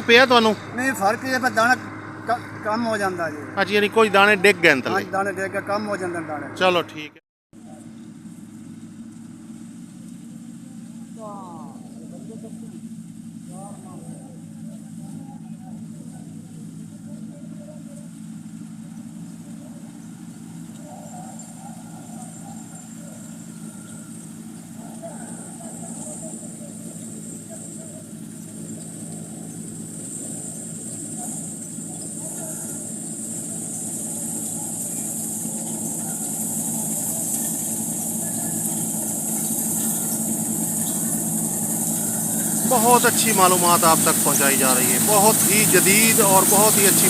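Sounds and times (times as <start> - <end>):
combine harvester droning: 0.0 - 47.0
high whine: 0.0 - 47.0.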